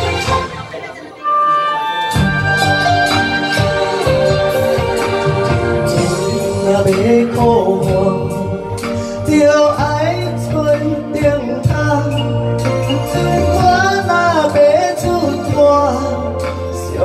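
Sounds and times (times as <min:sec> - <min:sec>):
karaoke backing track: 0:00.0 - 0:17.0.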